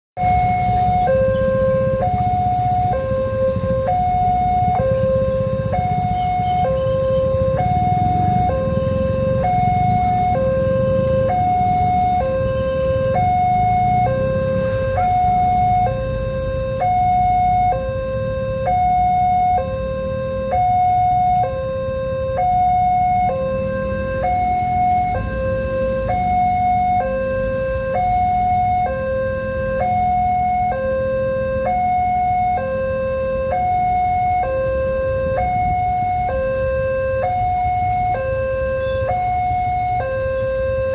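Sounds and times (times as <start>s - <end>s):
two-tone level crossing alarm: 0.2s - 40.9s.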